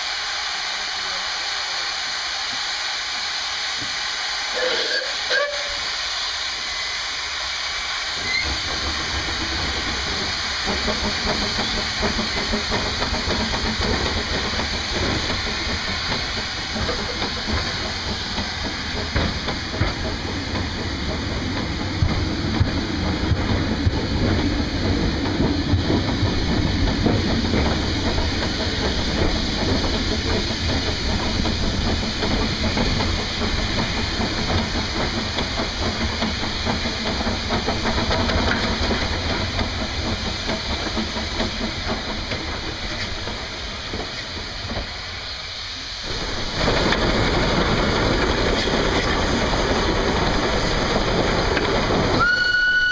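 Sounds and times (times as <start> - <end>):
steam locomotive hissing: 0.0 - 52.9
train rumbling along track: 0.0 - 52.9.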